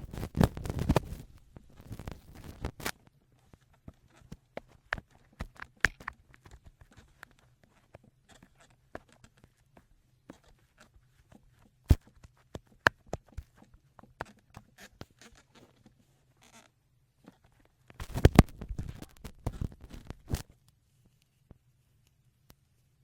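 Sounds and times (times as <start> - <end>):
cotton swab scraping microphone: 0.0 - 21.6.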